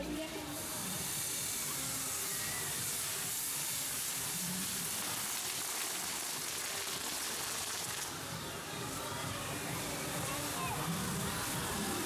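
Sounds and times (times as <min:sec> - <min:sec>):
firework fountains hissing: 0:00.1 - 0:12.0.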